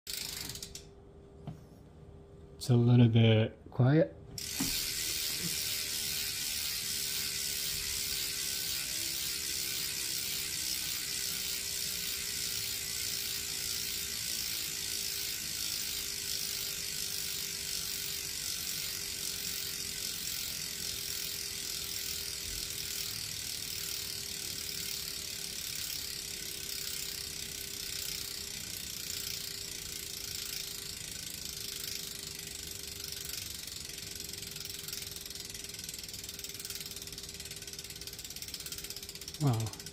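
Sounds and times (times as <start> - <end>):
bicycle hub ratchet buzzing: 0.1 - 0.9, 4.4 - 39.9.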